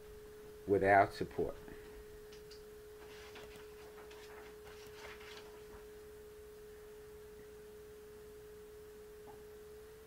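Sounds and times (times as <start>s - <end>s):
faint steady pure tone: 0.0s - 10.0s
low background noise: 0.0s - 10.0s.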